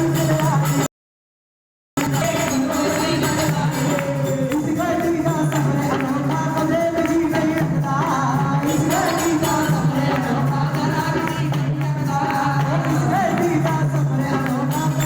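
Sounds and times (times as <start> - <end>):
jingly percussion: 0.0 - 0.9, 2.0 - 15.0
person singing devotional song: 0.0 - 0.9, 2.0 - 15.0.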